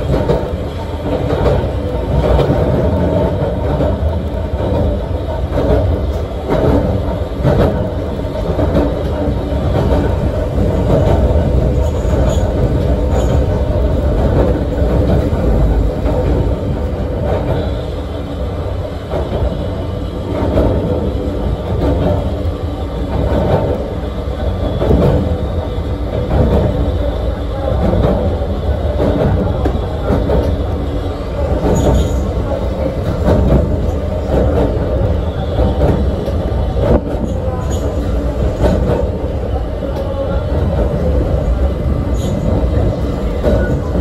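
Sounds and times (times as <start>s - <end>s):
electric railcar rumble and hum: 0.0s - 44.0s
wheels clicking on track: 0.0s - 44.0s.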